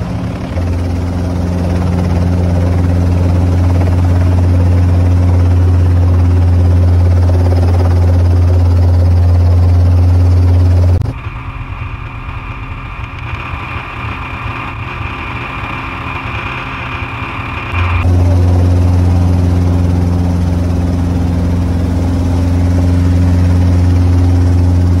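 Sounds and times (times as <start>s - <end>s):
helicopter drone inside cockpit: 0.0s - 25.0s
helicopter whine from outside: 0.0s - 25.0s.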